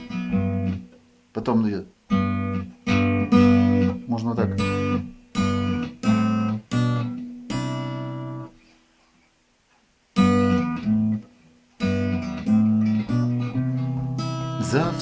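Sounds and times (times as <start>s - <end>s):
acoustic guitar strumming chords: 0.0s - 8.8s, 10.1s - 15.0s.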